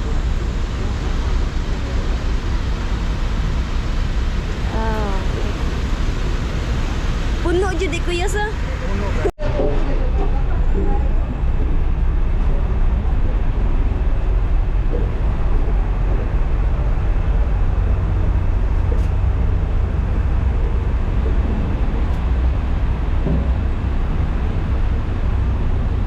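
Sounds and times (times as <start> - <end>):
ferry engines rumbling: 0.0 - 26.0.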